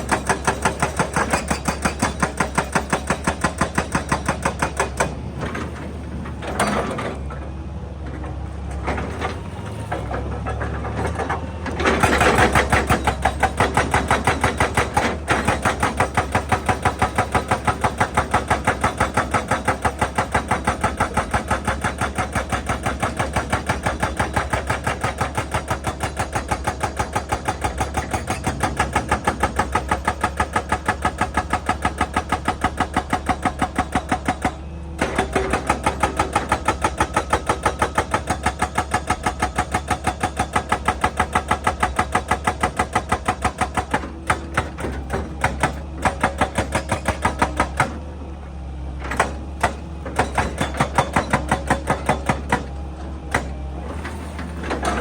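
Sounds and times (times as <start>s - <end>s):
hydraulic breaker hammering rock: 0.0s - 7.2s, 9.9s - 48.1s, 49.0s - 55.0s.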